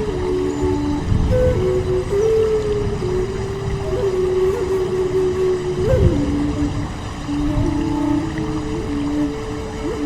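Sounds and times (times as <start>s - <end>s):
ambient drone music: 0.0s - 10.0s
steady hiss: 0.0s - 10.0s.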